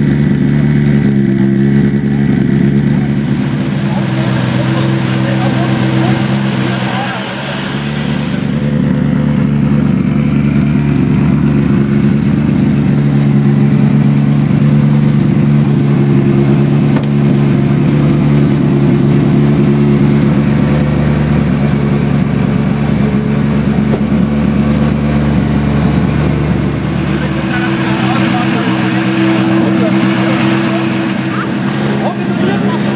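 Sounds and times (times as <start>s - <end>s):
car engine idling loudly: 0.0s - 32.9s.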